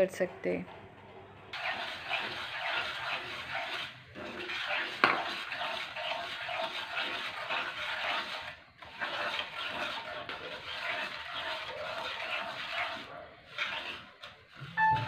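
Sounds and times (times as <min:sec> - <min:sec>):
spatula scraping frying pan: 0:01.5 - 0:15.0.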